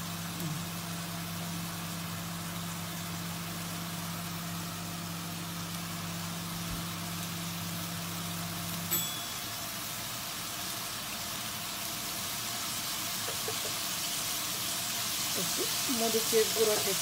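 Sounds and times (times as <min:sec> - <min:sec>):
food sizzling in wok: 0:00.0 - 0:17.0
low mechanical hum: 0:00.0 - 0:17.0.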